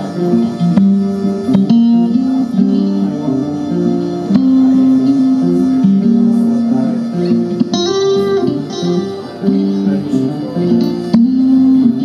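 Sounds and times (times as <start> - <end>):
plucked guitar music on loudspeakers: 0.0 - 12.0.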